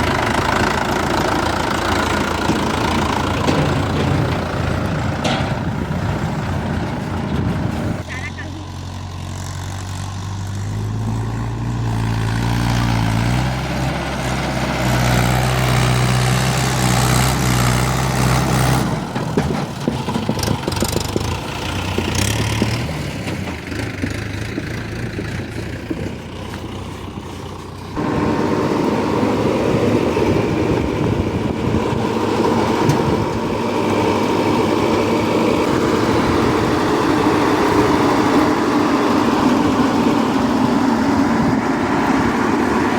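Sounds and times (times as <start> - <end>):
heavy diesel engines running: 0.0 - 42.9.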